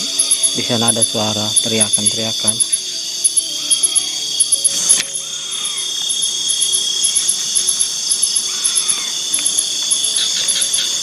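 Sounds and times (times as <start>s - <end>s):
faint rising and falling call: 0.0s - 11.0s
high pulsing insect chirp: 0.0s - 11.0s
insects trilling: 0.0s - 11.0s.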